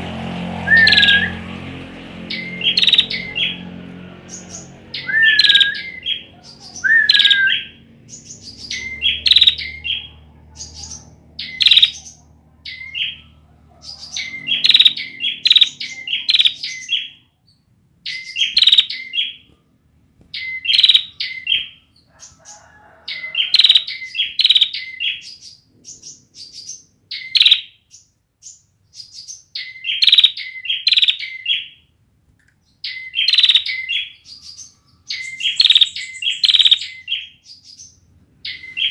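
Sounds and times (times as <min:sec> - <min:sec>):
bird chirping and twittering: 0:00.0 - 0:19.6, 0:20.2 - 0:31.9, 0:32.6 - 0:38.9.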